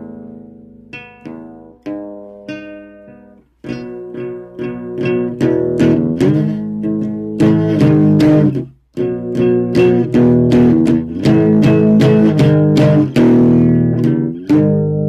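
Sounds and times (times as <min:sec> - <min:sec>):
plucked guitar notes: 0:00.0 - 0:15.0
strummed guitar chords: 0:00.0 - 0:15.0.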